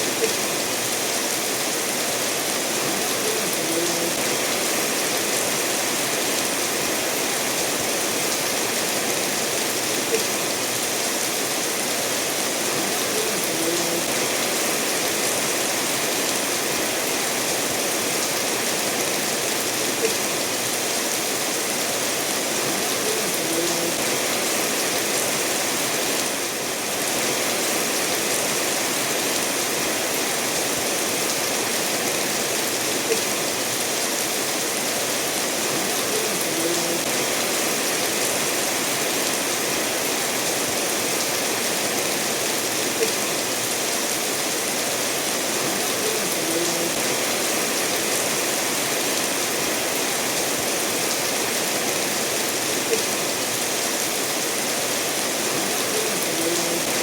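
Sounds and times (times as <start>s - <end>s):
steady rainfall: 0.0s - 57.0s
stream running over stones: 0.0s - 57.0s.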